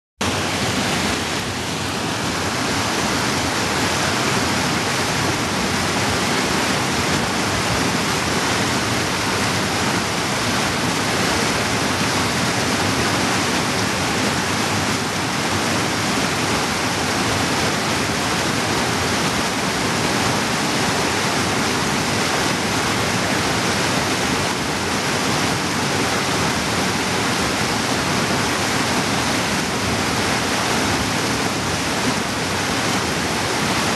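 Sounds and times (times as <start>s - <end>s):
creek rushing over boulders: 0.2s - 33.9s.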